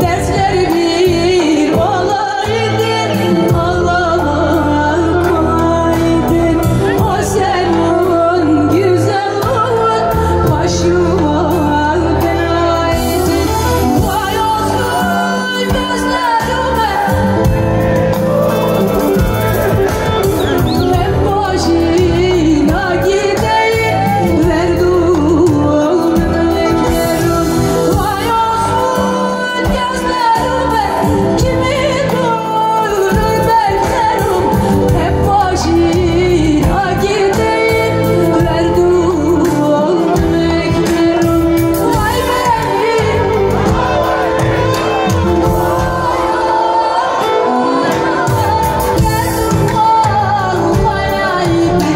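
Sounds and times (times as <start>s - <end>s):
band playing: 0.0s - 51.9s
woman singing into microphone: 0.0s - 51.9s.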